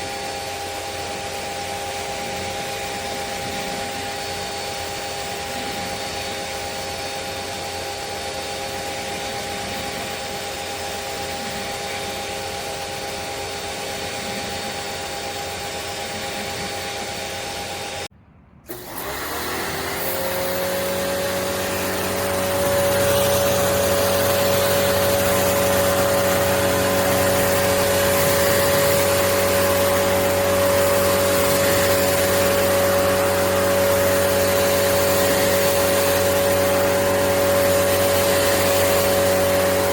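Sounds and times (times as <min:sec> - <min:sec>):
pressure washer motor running: 0:00.0 - 0:18.1, 0:18.7 - 0:39.9.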